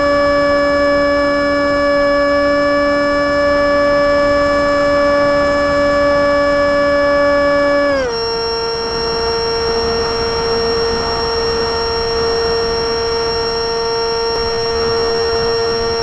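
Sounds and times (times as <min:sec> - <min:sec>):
model plane motor whine: 0:00.0 - 0:16.0.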